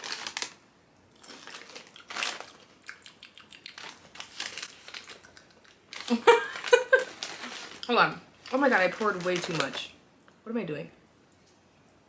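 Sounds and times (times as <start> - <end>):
corn chips crunching: 0.0 - 9.9.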